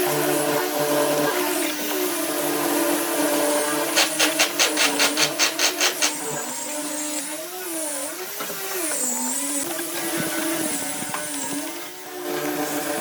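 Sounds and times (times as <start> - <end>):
power tool running: 0.0 - 13.0.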